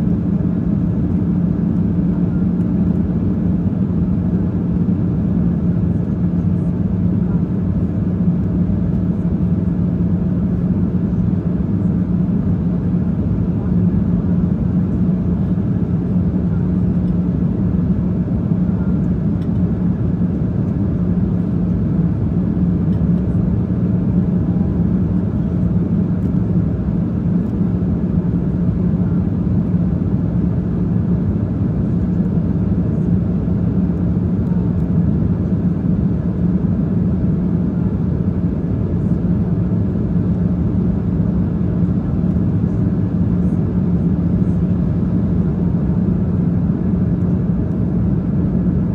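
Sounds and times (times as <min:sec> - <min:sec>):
constant low hum: 0:00.0 - 0:48.9
jet cabin engine and airflow rush: 0:00.0 - 0:48.9.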